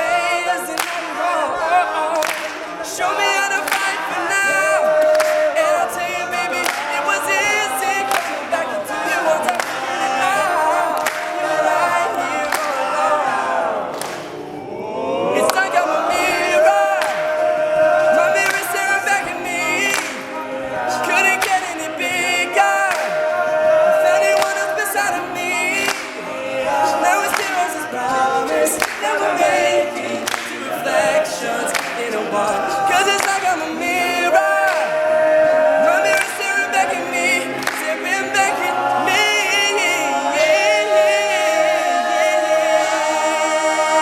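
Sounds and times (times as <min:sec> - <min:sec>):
male a cappella group singing: 0:00.0 - 0:44.0.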